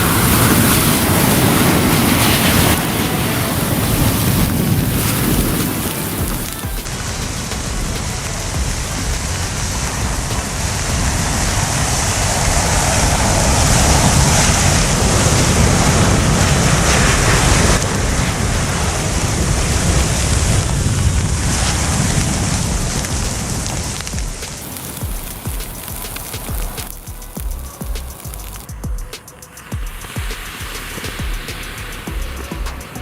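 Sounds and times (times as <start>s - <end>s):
match heads hissing and crackling: 0.0s - 33.0s.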